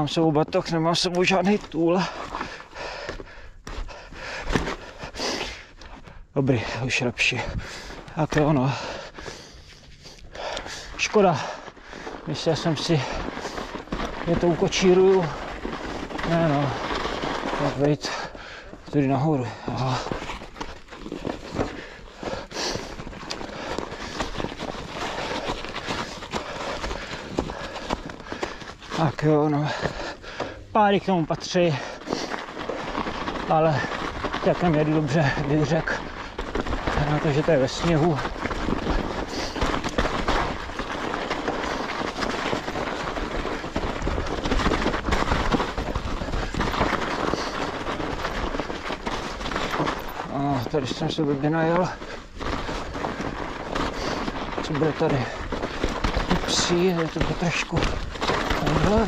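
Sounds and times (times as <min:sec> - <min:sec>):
bike rattling and clattering: 0:00.0 - 0:59.0
crunching through snow: 0:00.0 - 0:59.0.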